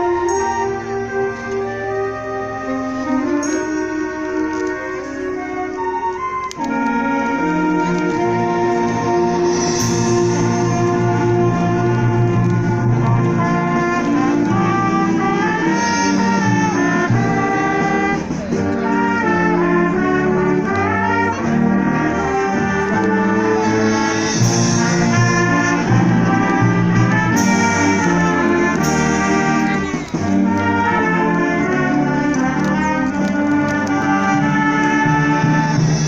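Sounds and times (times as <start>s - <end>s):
wind band playing: 0.0s - 36.0s.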